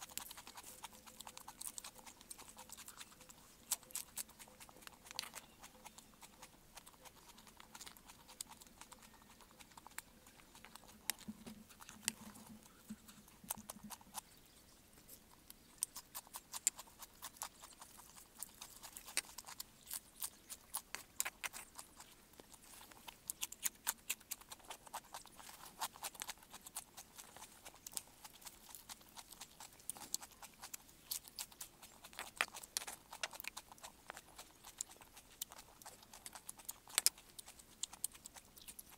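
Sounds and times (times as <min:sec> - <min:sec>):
crunching and chewing vegetables: 0:00.0 - 0:38.9.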